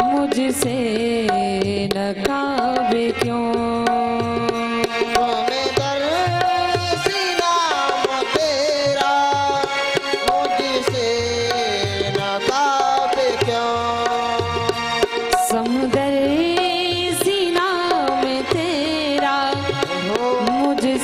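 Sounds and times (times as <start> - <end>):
hand drums: 0.0 - 21.0.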